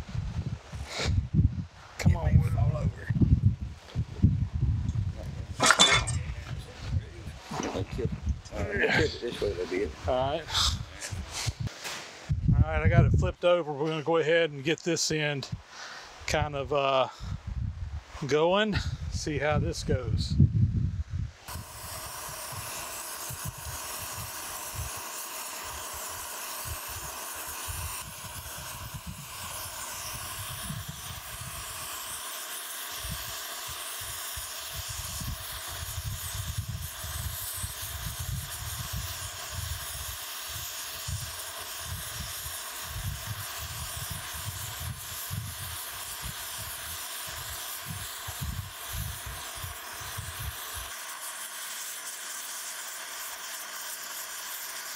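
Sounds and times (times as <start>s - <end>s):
torch flame hissing: 0.0s - 4.4s, 5.0s - 12.4s, 21.4s - 54.9s.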